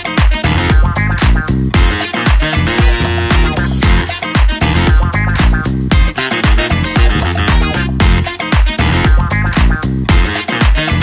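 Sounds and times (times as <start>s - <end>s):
disco funk music: 0.0s - 11.0s.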